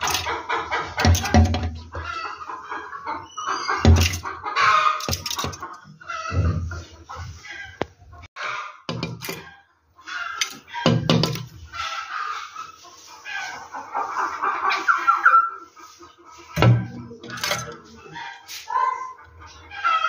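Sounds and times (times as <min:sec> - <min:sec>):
birds calling harshly: 0:00.0 - 0:06.8, 0:08.3 - 0:20.0.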